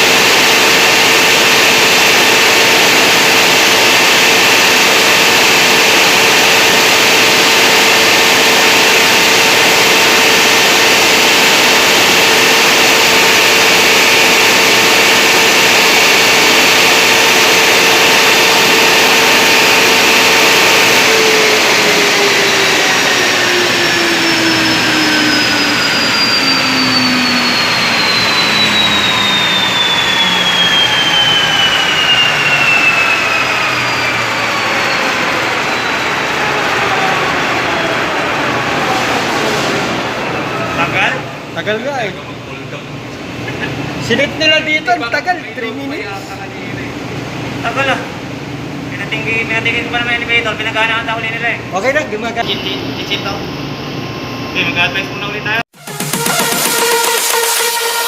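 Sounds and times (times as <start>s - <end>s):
generator running: 0.0s - 50.7s, 52.4s - 58.0s
generator whine: 0.0s - 58.0s.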